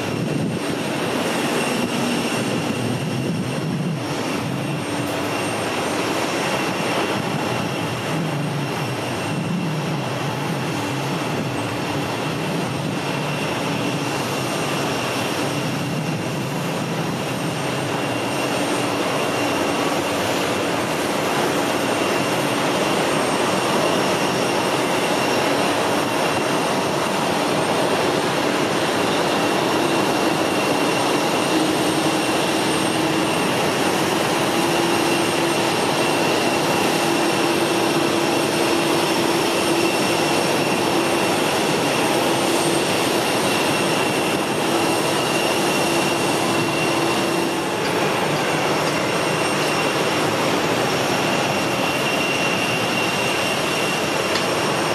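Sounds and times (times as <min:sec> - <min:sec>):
high turbine whine: 0:00.0 - 0:54.9
jet engines running: 0:00.0 - 0:54.9.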